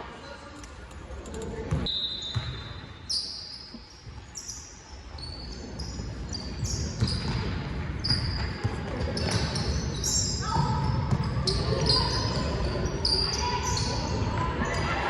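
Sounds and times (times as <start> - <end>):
sneaker squeaks on hardwood: 1.7 - 14.1.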